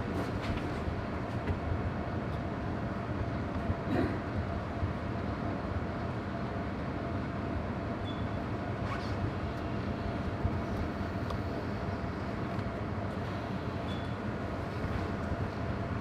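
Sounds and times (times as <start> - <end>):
ship engine rumble and hum: 0.0 - 16.0.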